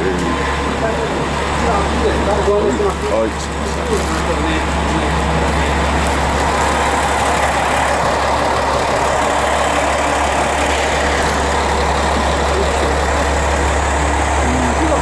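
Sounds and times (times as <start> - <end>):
diesel railcar engine idling: 0.0 - 15.0.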